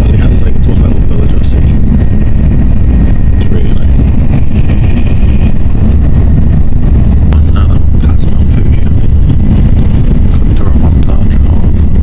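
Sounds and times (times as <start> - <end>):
high-speed train rumble: 0.0 - 12.0.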